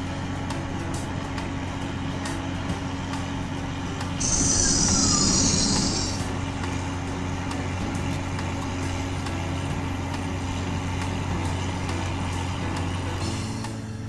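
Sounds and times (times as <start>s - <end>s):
heavy vehicle engine humming: 0.0s - 14.0s.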